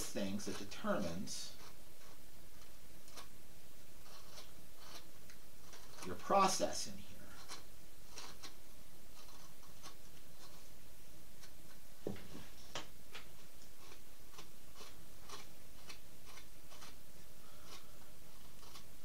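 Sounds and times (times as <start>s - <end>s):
carving knife scraping wood: 0.0s - 10.8s, 11.4s - 11.8s, 13.5s - 19.0s.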